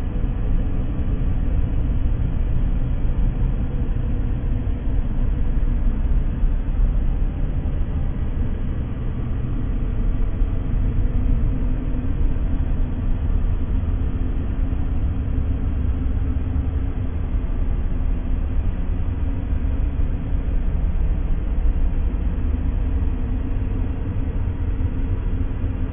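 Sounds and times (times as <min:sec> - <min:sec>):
low rumbling noise: 0:00.0 - 0:25.9.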